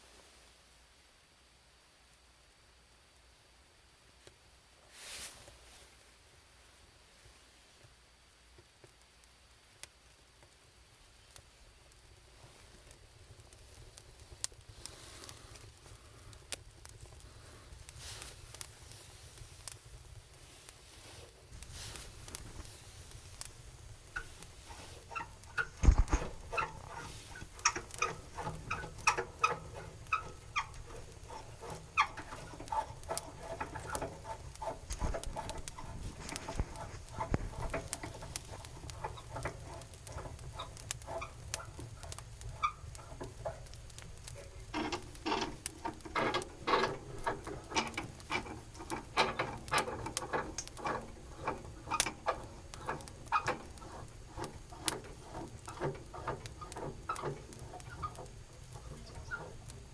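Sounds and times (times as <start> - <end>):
wood fire crackling: 4.2 - 59.9.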